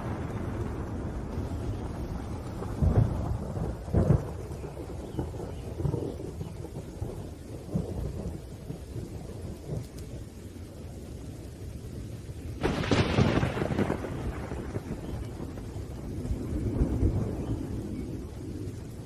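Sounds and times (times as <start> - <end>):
loud thunder claps: 0.0 - 10.3, 12.6 - 19.0
rolling thunder: 0.0 - 19.0
steady rain: 0.0 - 19.0.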